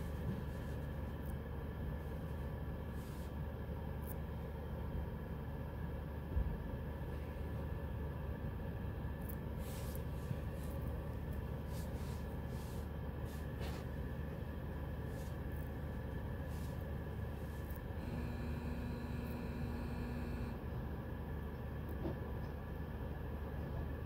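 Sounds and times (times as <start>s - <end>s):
muffled car wash rumble: 0.0s - 24.0s
steady hum: 0.0s - 24.0s.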